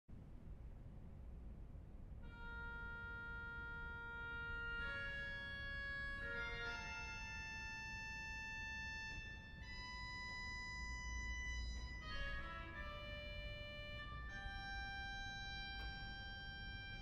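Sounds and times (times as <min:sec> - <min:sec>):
pipe organ sustained chords: 0:02.2 - 0:17.0.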